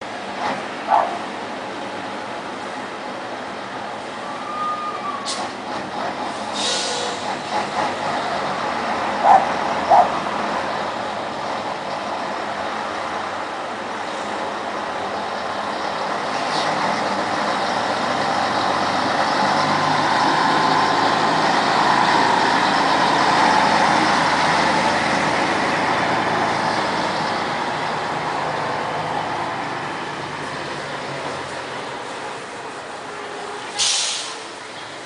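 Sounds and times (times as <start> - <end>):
truck diesel engine running: 5.0 - 35.0.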